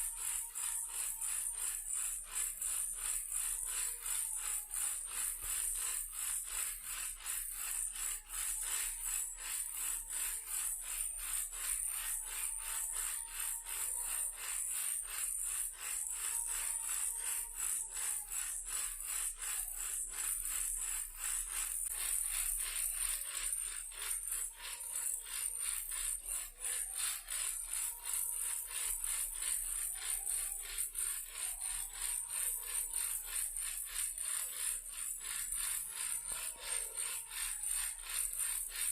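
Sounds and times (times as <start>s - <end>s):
toy car rattling: 0.0s - 38.9s.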